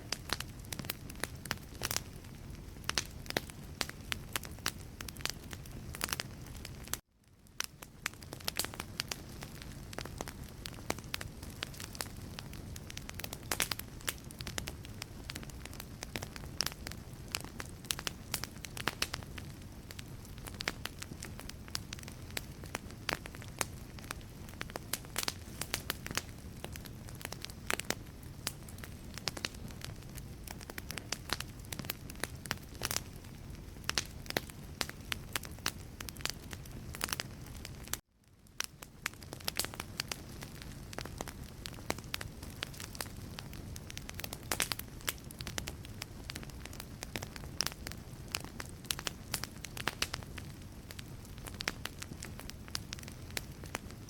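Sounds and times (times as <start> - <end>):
low rush of flame: 0.0 - 54.0
wood fire crackling and popping: 0.0 - 54.0.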